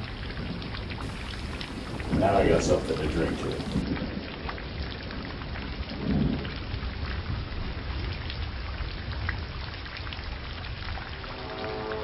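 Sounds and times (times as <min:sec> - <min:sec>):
low rumble of thunder: 0:00.0 - 0:12.0
steady rain: 0:00.0 - 0:12.0.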